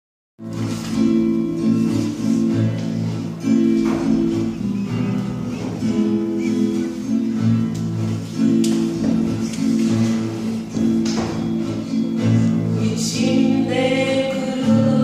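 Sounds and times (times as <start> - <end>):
plucked string instrument music: 0.4 - 15.0.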